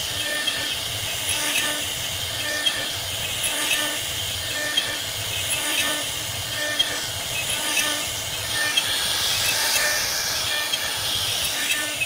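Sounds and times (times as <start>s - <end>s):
router spindle cutting wood hiss: 0.0s - 12.0s.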